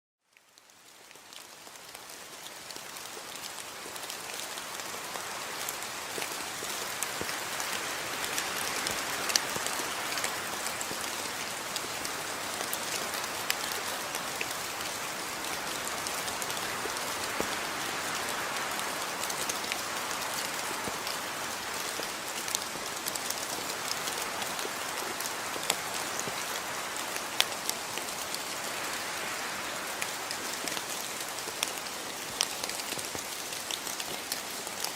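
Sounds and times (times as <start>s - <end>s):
raindrops ticking on a surface: 0.2s - 34.9s
steady rain hiss: 0.3s - 34.9s.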